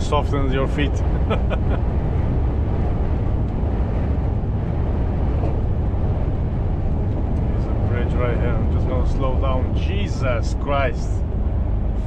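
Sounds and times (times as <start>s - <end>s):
lorry engine and tyres rumbling: 0.0s - 12.0s
wind noise around cab: 0.0s - 12.0s.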